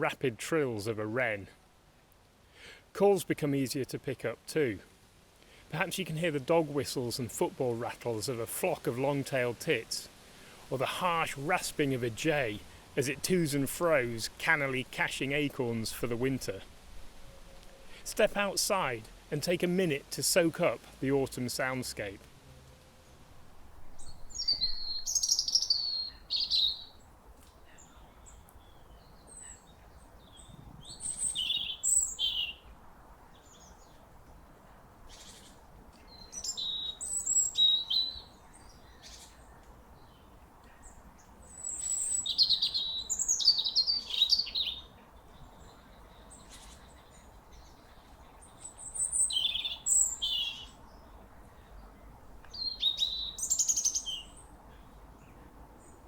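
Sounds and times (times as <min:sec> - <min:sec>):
songbird singing: 0:10.7 - 0:56.0.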